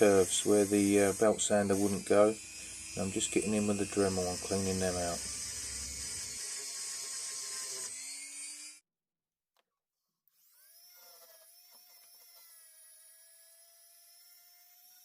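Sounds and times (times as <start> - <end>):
rotary tool whining: 0.0 - 8.8, 10.4 - 15.0.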